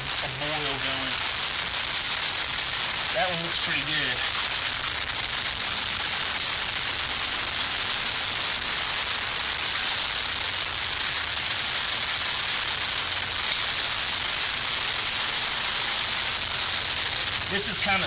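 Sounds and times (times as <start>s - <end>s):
alcohol stoves hissing: 0.0s - 18.0s.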